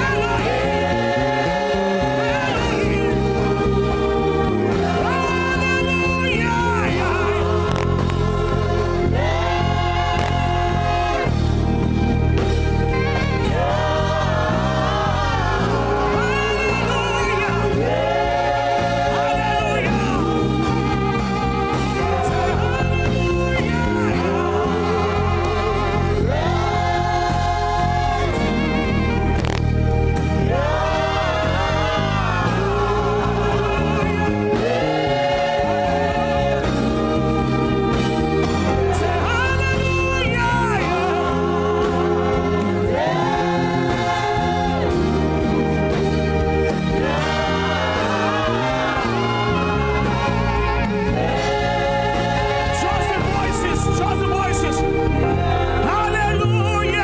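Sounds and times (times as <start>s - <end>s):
choir singing held notes: 0.0s - 6.1s, 6.8s - 57.0s
bass: 0.0s - 57.0s
gospel worship music: 0.0s - 57.0s
sustained instrumental chords: 0.0s - 57.0s.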